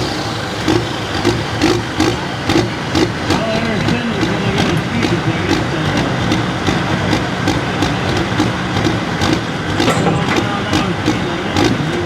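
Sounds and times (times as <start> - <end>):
tractor engine running loud: 0.0 - 12.0.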